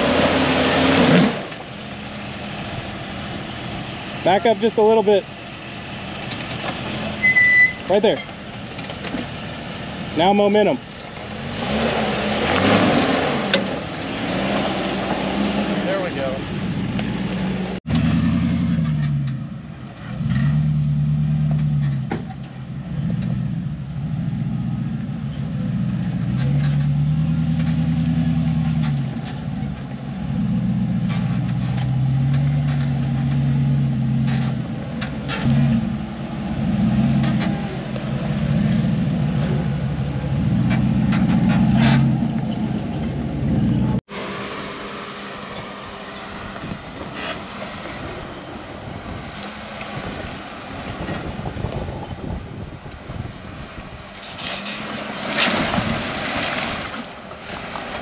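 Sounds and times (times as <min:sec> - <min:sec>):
truck engine revving: 0:00.0 - 0:22.1, 0:22.9 - 0:58.0.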